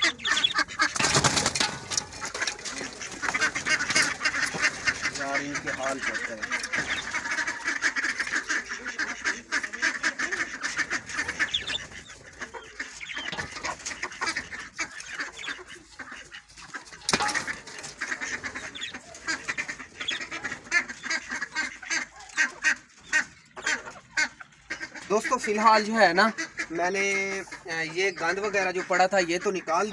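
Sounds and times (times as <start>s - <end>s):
ducks calling: 0.0s - 29.9s.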